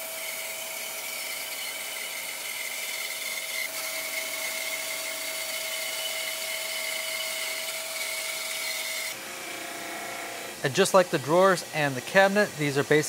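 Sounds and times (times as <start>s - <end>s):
bandsaw cutting wood: 0.0s - 13.0s.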